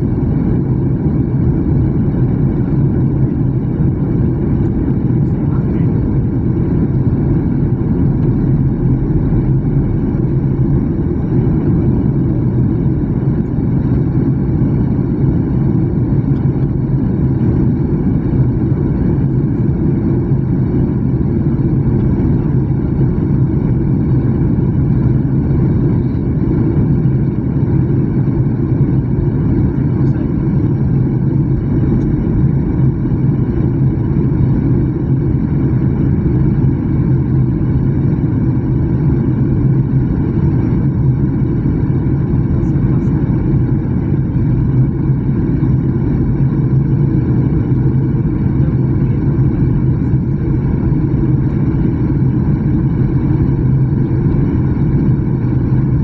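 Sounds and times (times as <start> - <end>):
jet airliner cabin drone: 0.0 - 56.0
steady low hum: 0.0 - 56.0.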